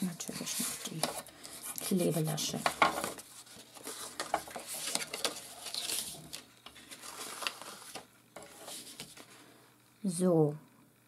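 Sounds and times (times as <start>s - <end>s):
card rustling and crackling: 0.3s - 9.5s.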